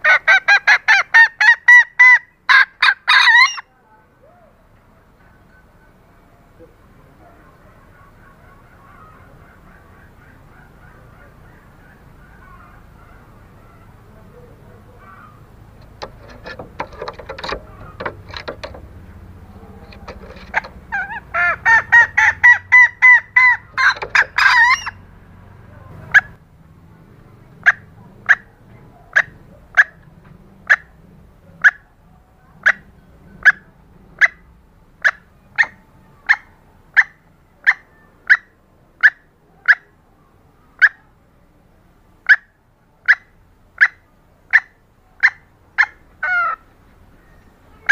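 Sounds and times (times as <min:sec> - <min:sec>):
hen clucks: 0:00.0 - 0:03.7, 0:05.2 - 0:26.4, 0:27.4 - 0:40.0, 0:40.7 - 0:41.2, 0:42.2 - 0:47.9
hen cackling: 0:00.0 - 0:04.6, 0:06.6 - 0:26.4, 0:27.6 - 0:31.0, 0:31.6 - 0:41.2, 0:42.2 - 0:47.9
hen calls: 0:00.0 - 0:26.4, 0:27.5 - 0:31.0, 0:31.6 - 0:41.2, 0:42.2 - 0:47.9.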